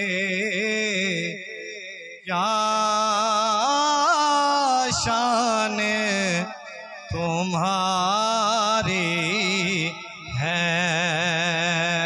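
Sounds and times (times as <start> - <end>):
man singing unaccompanied: 0.0 - 1.4, 2.2 - 12.0.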